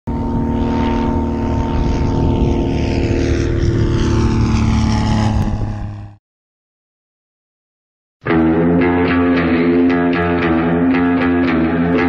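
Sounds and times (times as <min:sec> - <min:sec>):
propeller plane engine droning: 0:00.1 - 0:06.2, 0:08.3 - 0:12.0.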